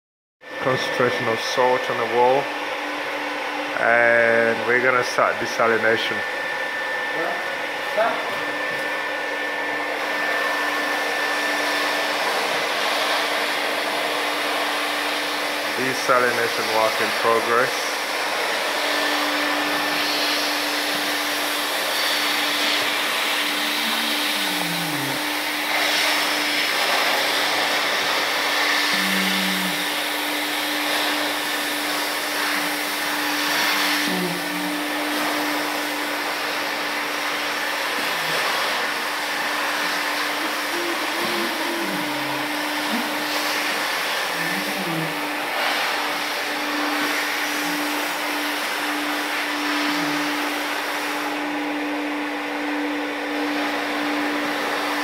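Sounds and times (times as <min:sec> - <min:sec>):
vacuum machine running: 0:00.4 - 0:55.0.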